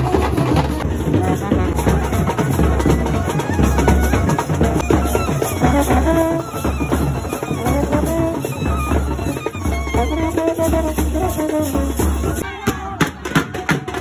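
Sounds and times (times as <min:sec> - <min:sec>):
drums beating heavy rhythm: 0:00.0 - 0:14.0.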